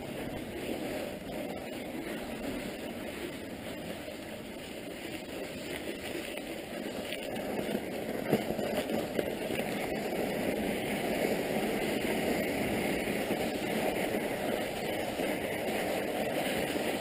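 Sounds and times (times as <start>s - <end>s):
bike tyres crunching over snow: 0.0s - 17.0s.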